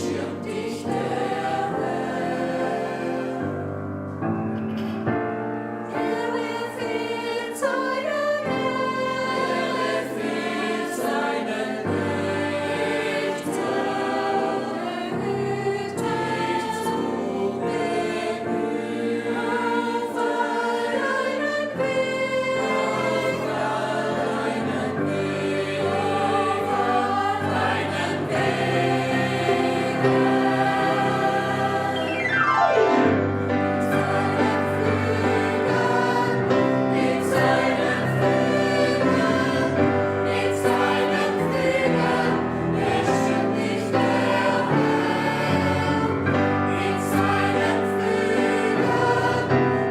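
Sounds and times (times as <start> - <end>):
gospel choir singing: 0.0 - 49.9.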